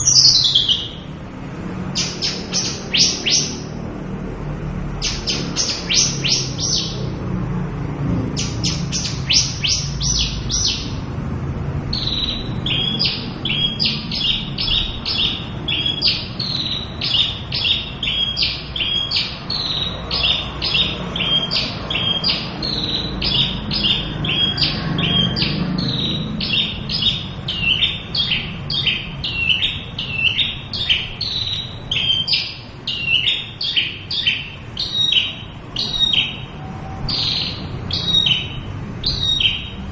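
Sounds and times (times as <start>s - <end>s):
bush lark singing: 0.0s - 1.2s, 1.8s - 3.8s, 5.0s - 7.0s, 8.3s - 11.0s, 11.8s - 39.9s.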